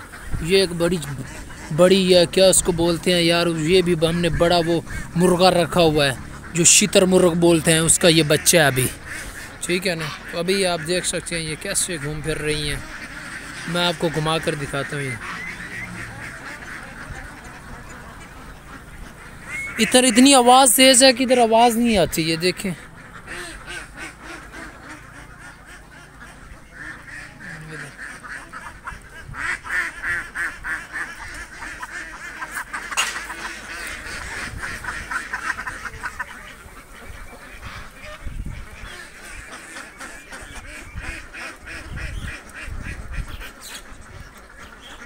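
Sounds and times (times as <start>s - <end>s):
ducks quacking: 0.0s - 45.0s.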